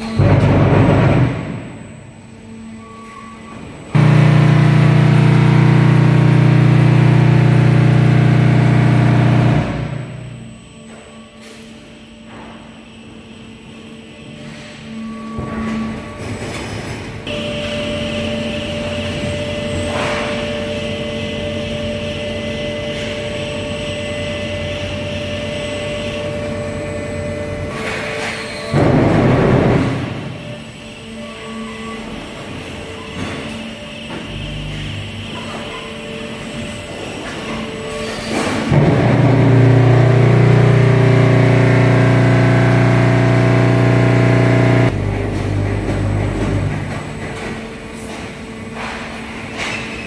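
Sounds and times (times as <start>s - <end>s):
constant machine tones: 0.0s - 50.0s
machinery motors and hydraulics hum: 0.0s - 50.0s.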